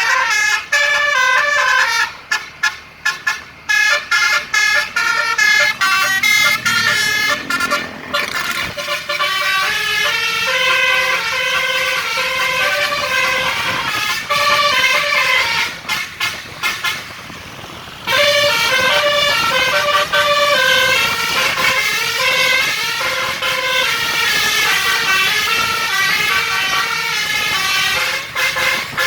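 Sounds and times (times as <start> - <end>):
musical air horn melody: 0.0 - 17.2, 18.1 - 29.0.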